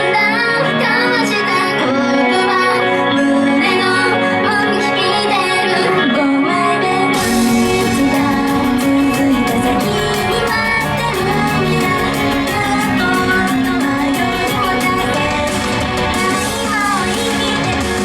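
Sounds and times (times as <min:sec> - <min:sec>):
upbeat pop song with band: 0:00.0 - 0:18.0
women singing: 0:00.0 - 0:18.0.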